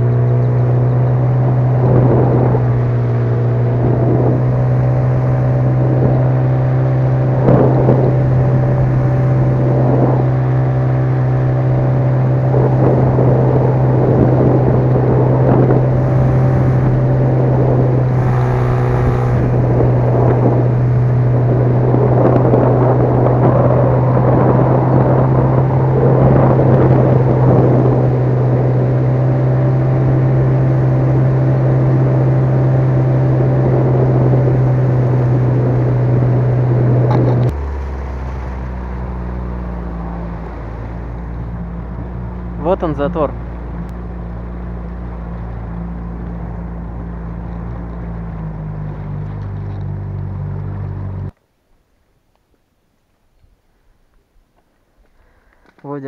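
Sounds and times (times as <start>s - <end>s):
outboard motor running: 0.0s - 51.4s.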